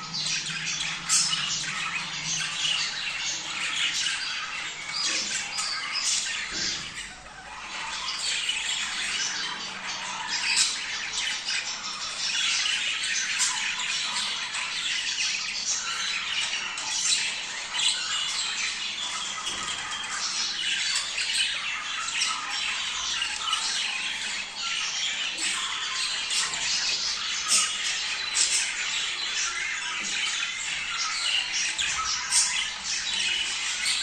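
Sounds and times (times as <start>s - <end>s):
budgerigars chattering: 0.0s - 34.0s.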